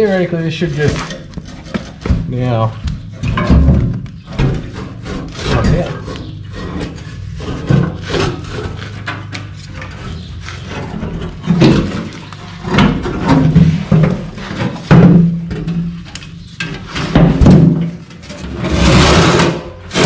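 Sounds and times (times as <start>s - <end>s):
metal tank knocks and scrapes: 0.8s - 20.0s.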